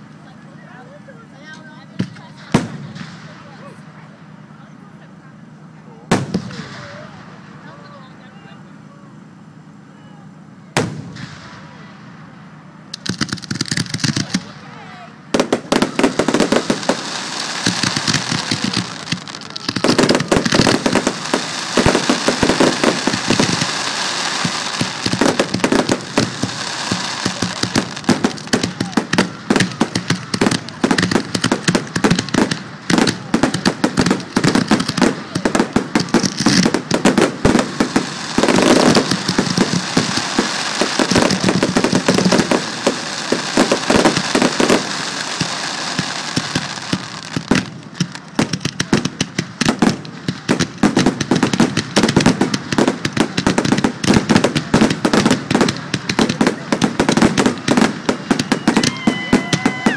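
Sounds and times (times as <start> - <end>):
fireworks bangs and crackling: 0.0 - 8.8, 10.5 - 59.9.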